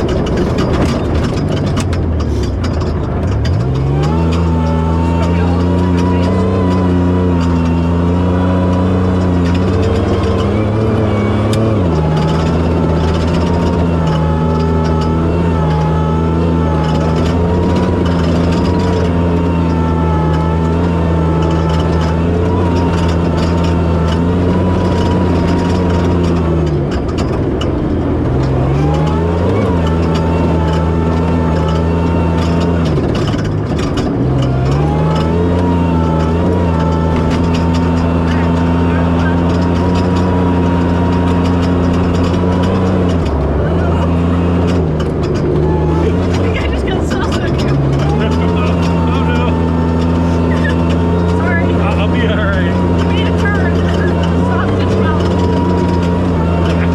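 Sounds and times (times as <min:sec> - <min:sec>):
truck engine revving high: 0:00.0 - 0:56.9.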